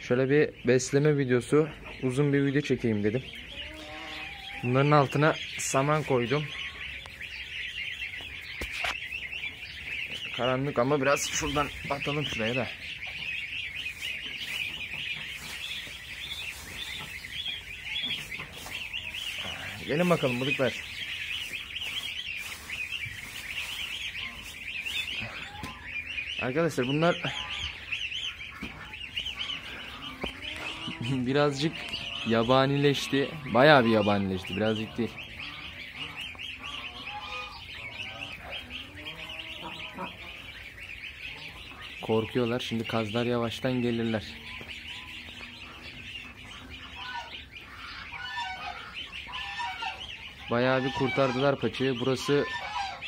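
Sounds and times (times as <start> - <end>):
ducklings peeping: 0.0 - 53.0
lower bird calls: 0.0 - 53.0.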